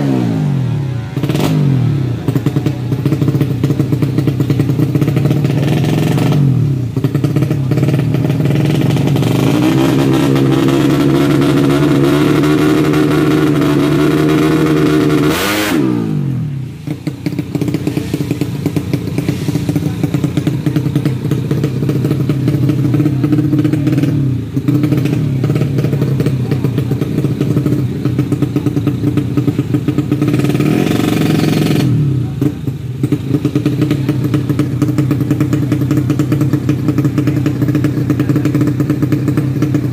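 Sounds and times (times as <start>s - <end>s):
drag bike engines revving: 0.0s - 39.9s.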